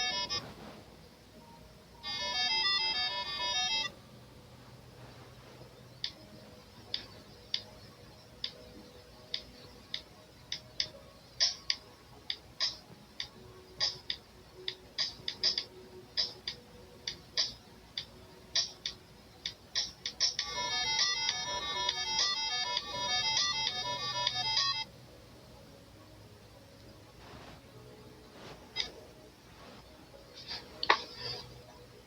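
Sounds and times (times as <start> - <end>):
faint steady background noise: 0.0 - 32.0.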